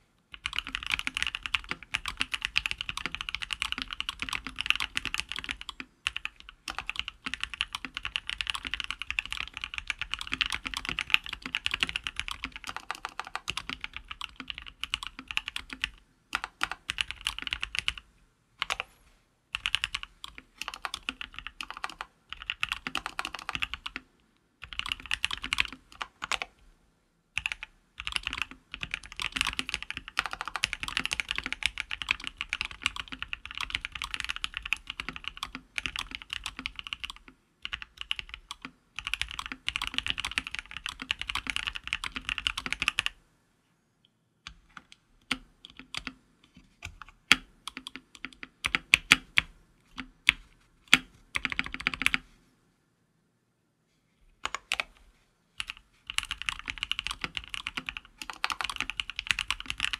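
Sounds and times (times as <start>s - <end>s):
fast mechanical keyboard typing: 0.4s - 18.0s, 19.6s - 24.0s, 24.6s - 26.5s, 27.4s - 43.2s, 45.3s - 46.2s, 46.8s - 52.2s, 55.6s - 59.9s.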